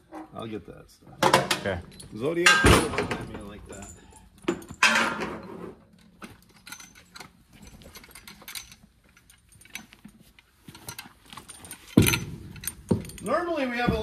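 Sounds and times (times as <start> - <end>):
harness hardware clinking and jingling: 1.2 - 14.0.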